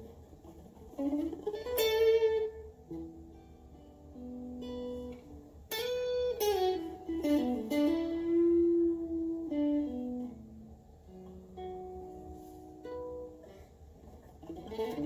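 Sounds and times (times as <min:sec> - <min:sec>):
electric guitar blues lead: 0:00.0 - 0:15.0
low amp hum: 0:00.0 - 0:15.0.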